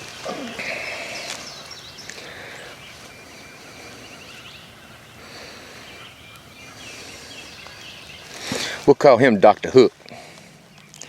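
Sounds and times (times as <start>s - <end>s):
birds chirping and trilling: 0.0s - 11.0s.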